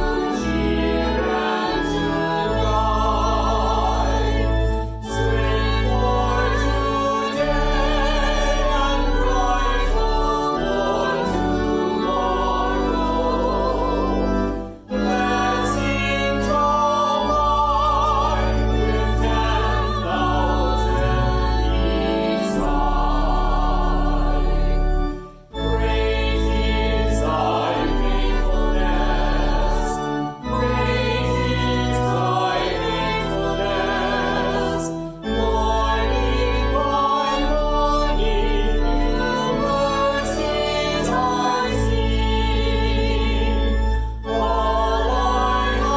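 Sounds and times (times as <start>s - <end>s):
choir singing a hymn: 0.0s - 45.9s.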